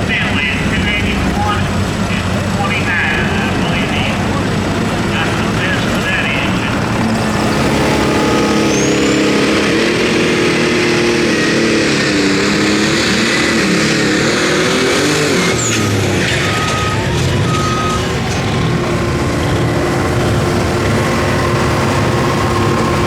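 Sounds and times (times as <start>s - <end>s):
pulling vehicle engine at full throttle: 0.0s - 23.0s.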